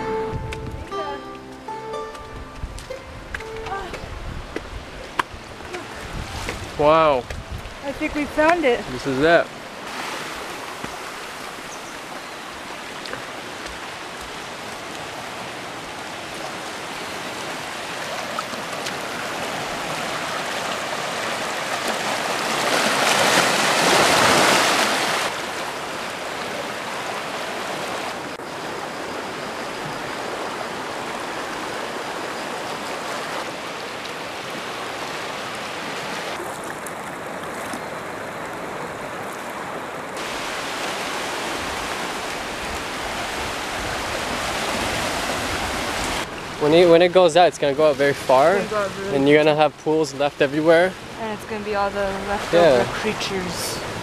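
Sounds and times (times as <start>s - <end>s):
sea surf washing against rocks: 3.6s - 28.9s, 29.6s - 54.0s.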